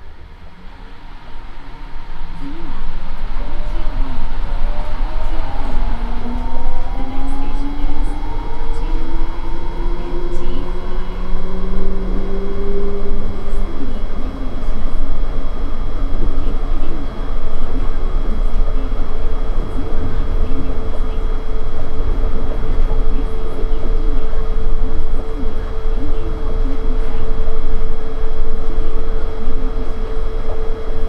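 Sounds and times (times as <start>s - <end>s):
steady higher hum: 0.0s - 31.0s.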